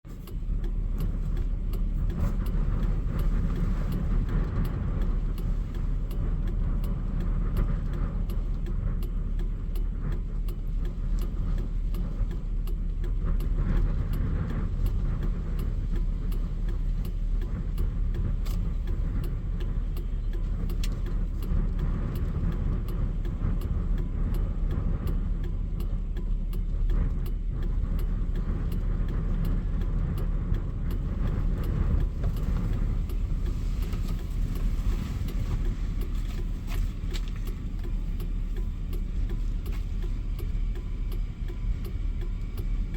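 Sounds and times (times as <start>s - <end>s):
vehicle rumbling: 0.0s - 42.9s
light rattling clicks: 0.1s - 42.9s.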